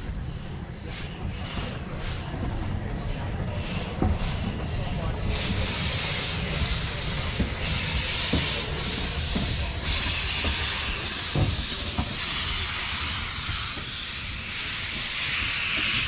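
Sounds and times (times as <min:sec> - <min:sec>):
steam locomotive low rumble: 0:00.0 - 0:16.0
steam hissing: 0:00.2 - 0:16.0.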